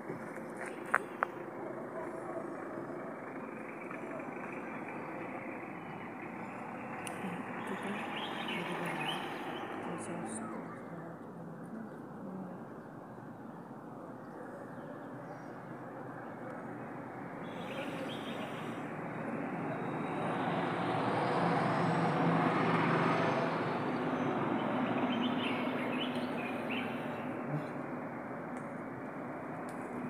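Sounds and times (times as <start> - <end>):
motor vehicle passing: 0.1 - 12.6, 16.3 - 30.0.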